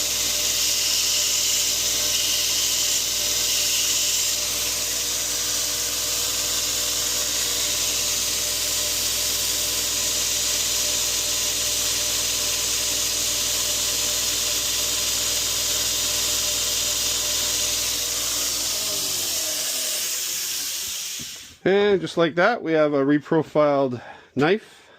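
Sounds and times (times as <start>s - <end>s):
belt grinder motor humming: 0.0s - 21.6s
belt grinding steel hiss: 0.0s - 21.6s.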